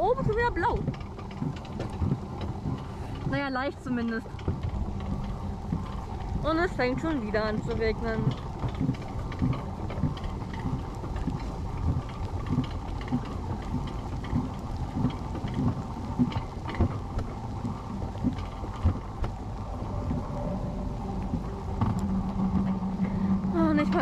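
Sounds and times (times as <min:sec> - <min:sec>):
coaster sled rumbling on track: 0:00.0 - 0:24.0
raindrops tapping on camera: 0:00.0 - 0:24.0.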